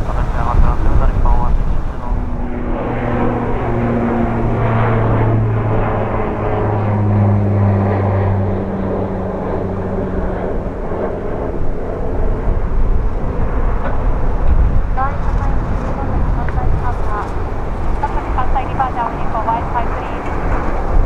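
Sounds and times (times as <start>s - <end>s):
airliner engines droning: 0.0s - 21.0s.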